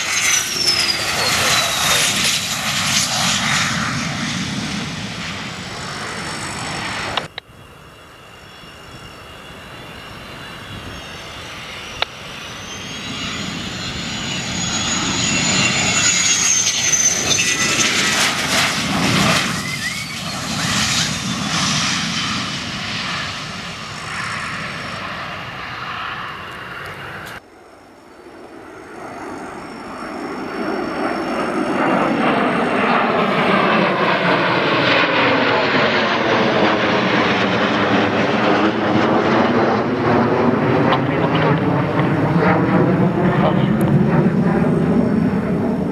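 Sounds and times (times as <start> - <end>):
fighter jet engine rumble: 0.0 - 45.9
jet passing overhead: 0.0 - 45.9.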